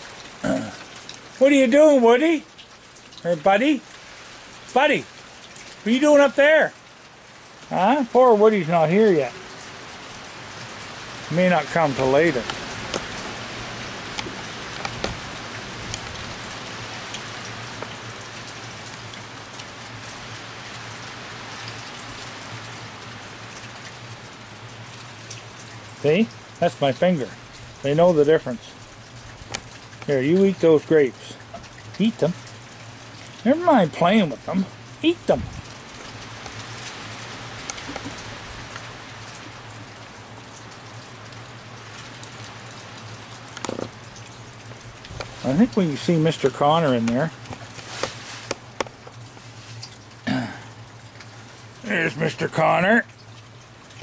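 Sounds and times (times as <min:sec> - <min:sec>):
low steady hum: 0:00.0 - 0:54.0
rain on wooden deck: 0:00.0 - 0:54.0.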